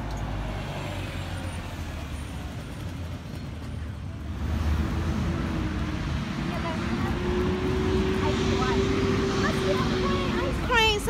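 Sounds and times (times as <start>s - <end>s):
bus engine humming: 0.0s - 11.0s
road traffic noise: 0.0s - 11.0s.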